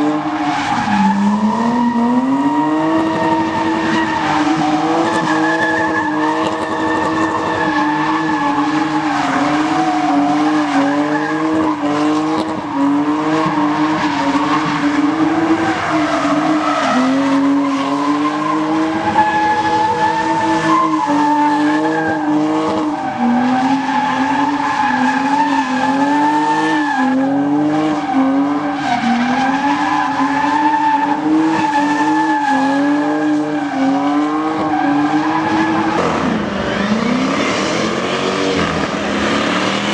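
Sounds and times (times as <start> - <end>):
tyre screech: 0.0 - 38.0
engine revving high: 0.0 - 39.9.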